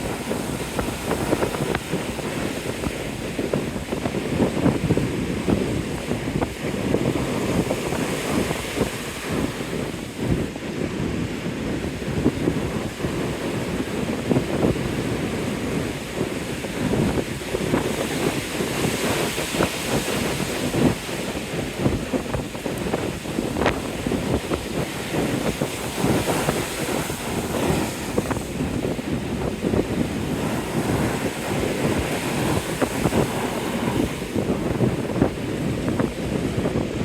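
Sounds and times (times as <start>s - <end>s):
ocean surf washing ashore: 0.0s - 37.0s
wind buffeting microphone: 0.0s - 37.0s.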